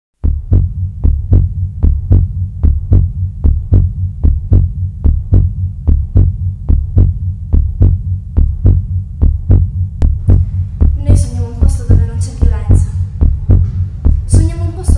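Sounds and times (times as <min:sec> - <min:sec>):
heartbeat thumps: 0:00.2 - 0:14.9
low hum: 0:00.2 - 0:14.9.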